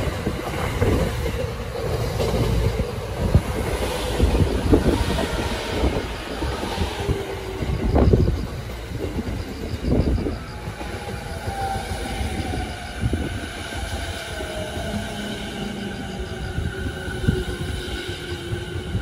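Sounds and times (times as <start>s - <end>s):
train wheel and rail rumble: 0.0s - 19.0s.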